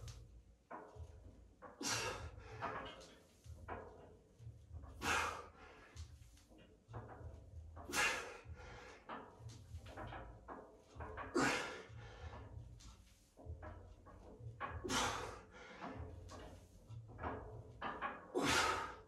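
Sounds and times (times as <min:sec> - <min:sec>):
knocks and creaks: 0:00.0 - 0:19.0.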